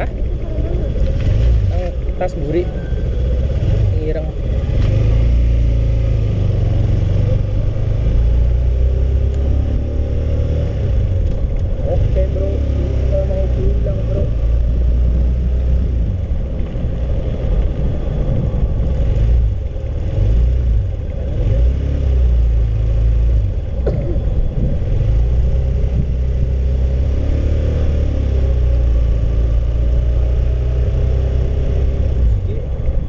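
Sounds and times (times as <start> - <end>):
motorcycle engine rumbling: 0.0 - 33.0.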